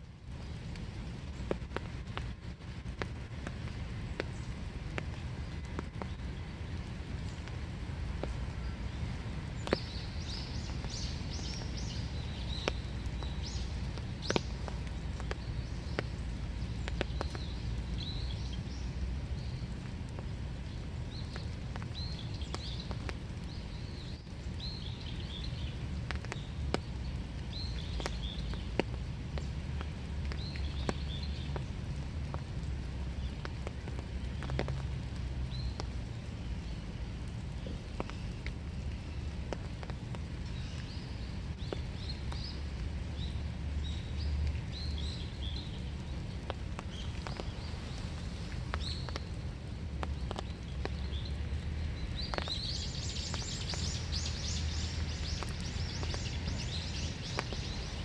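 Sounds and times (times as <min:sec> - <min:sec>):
raindrops ticking: 0:00.0 - 0:58.0
small birds chirping: 0:00.3 - 0:58.0.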